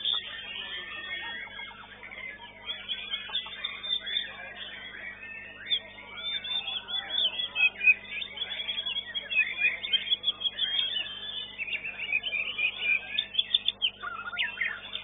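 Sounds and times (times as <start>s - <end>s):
songbird chirping and whistling: 0.0s - 15.0s.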